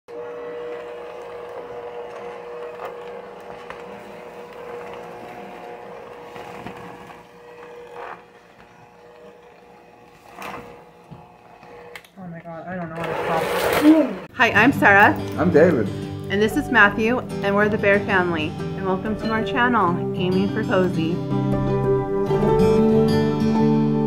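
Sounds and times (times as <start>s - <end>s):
electric hand mixer whine: 0.1s - 24.0s.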